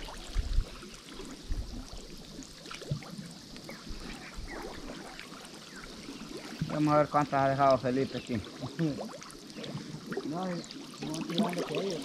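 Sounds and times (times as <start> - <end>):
small splashes and gurgles: 0.0 - 12.0
water sloshing and trickling: 0.0 - 12.0.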